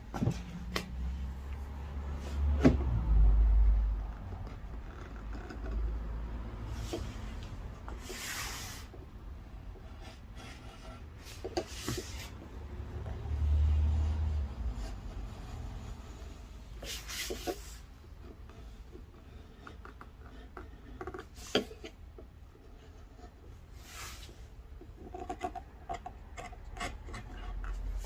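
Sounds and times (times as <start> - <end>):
chisel scraping wood: 4.0 - 28.0.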